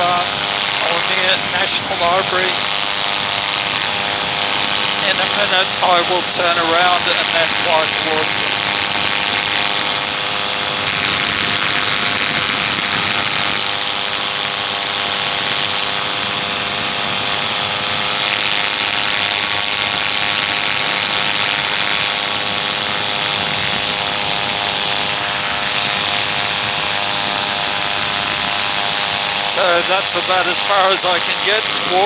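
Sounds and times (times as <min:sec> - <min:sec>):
paramotor engine drone: 0:00.0 - 0:32.0.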